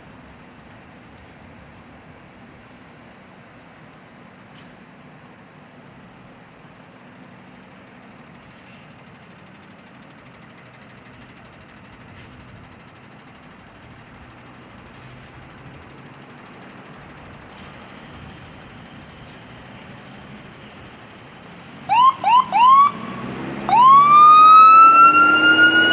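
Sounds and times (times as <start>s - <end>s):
fire truck engine idling: 0.0s - 23.0s.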